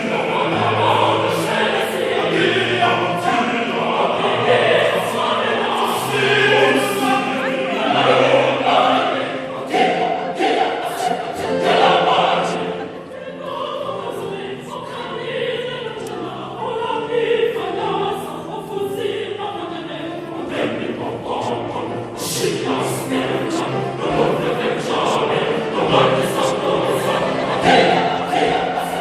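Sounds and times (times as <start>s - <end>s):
choir singing sustained chords: 0.0s - 29.0s.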